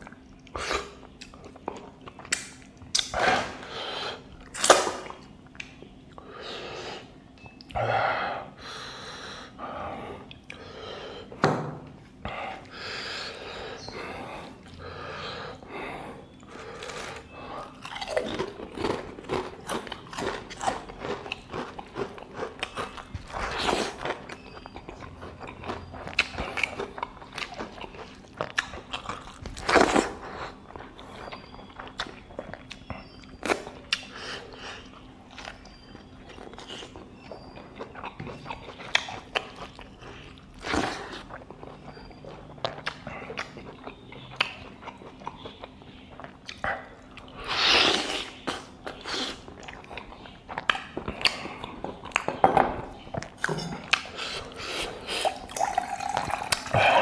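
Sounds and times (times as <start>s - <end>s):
person chewing food: 0.0s - 6.3s, 8.5s - 57.0s.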